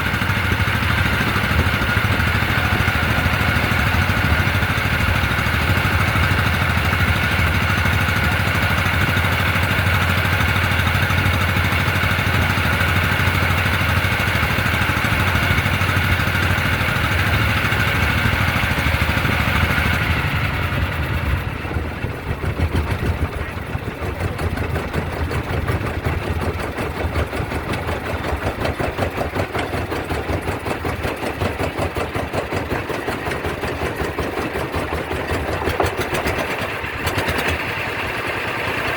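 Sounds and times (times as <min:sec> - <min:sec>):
engine running with whine: 0:00.0 - 0:38.9.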